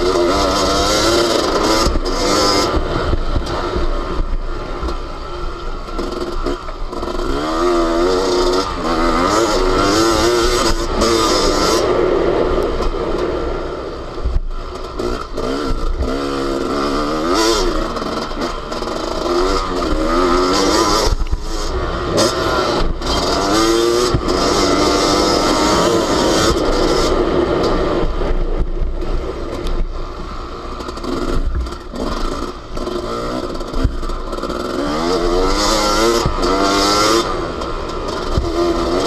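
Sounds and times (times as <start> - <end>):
motocross engine revving: 0.0 - 13.7, 14.6 - 39.0.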